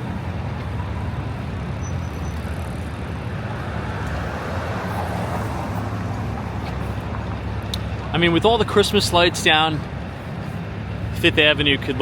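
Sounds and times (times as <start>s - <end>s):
passing vehicle rushing: 0.0s - 12.0s
traffic rumble: 0.0s - 12.0s.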